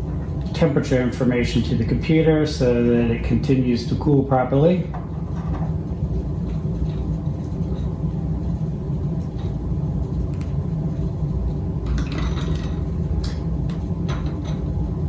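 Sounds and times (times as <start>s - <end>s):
low hum with even tones: 0.0s - 15.0s.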